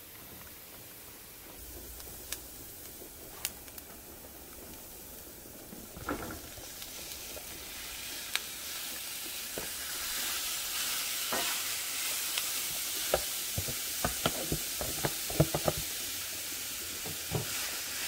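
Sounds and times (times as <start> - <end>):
onions sizzling in a frying pan: 0.0 - 18.0.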